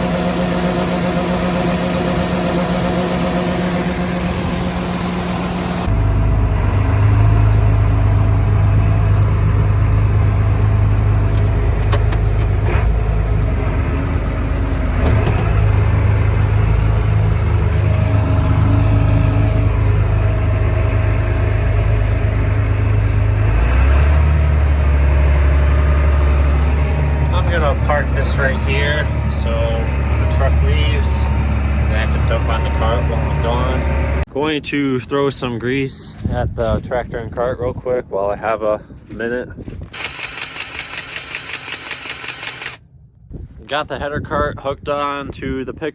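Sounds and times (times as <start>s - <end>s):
tractor diesel engine running: 0.0s - 37.8s, 38.4s - 42.8s.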